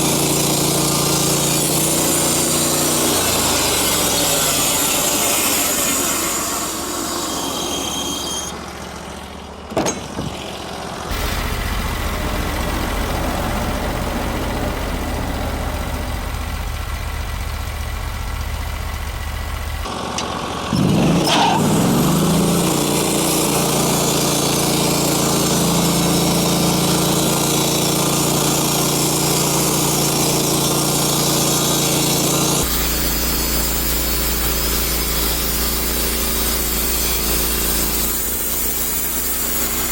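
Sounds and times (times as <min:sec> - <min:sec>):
sawmill gasoline engine running: 0:00.0 - 0:39.9.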